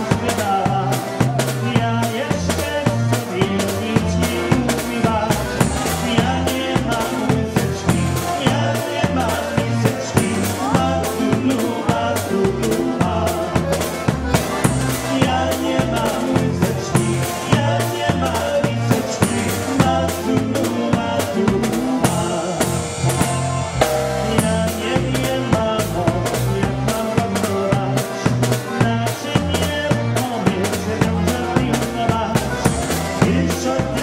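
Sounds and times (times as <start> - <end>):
drum kit steady beat: 0.0 - 34.0
polka band playing: 0.0 - 34.0.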